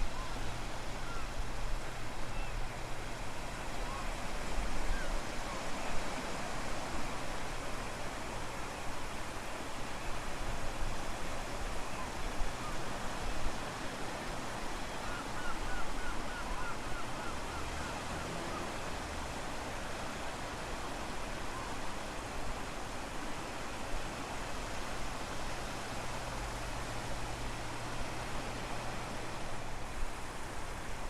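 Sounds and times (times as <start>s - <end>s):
ocean waves: 0.0s - 31.0s.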